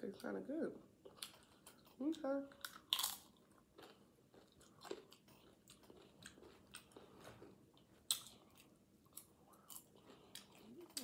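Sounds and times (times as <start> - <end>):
chewing and crunching chips: 1.0 - 11.0.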